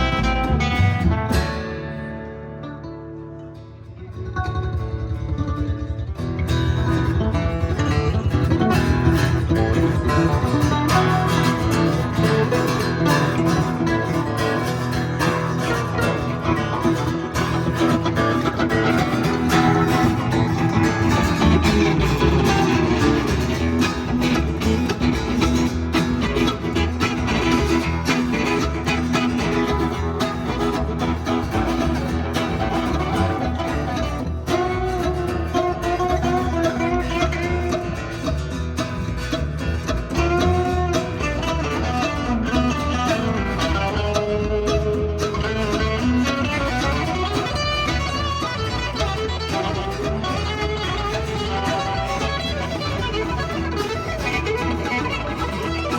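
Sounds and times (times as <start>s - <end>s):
guitar lead line: 0.0s - 55.9s.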